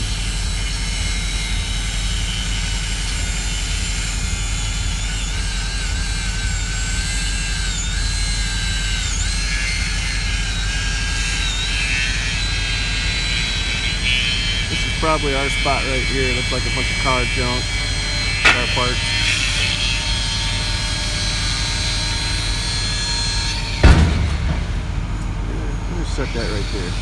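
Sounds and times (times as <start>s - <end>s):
high machine whine: 0.0s - 27.0s
low engine drone: 0.0s - 27.0s.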